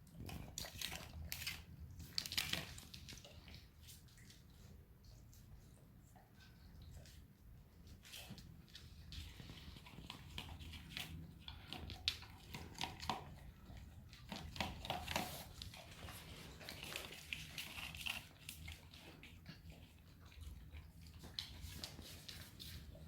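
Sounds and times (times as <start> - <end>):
dog eating soft food: 0.0 - 23.0.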